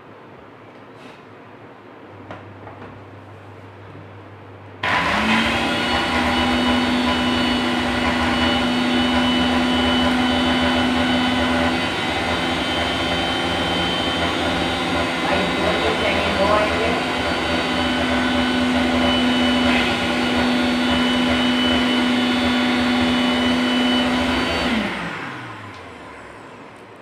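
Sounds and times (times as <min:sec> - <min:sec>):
mixer grinder motor whining: 0:04.8 - 0:26.8.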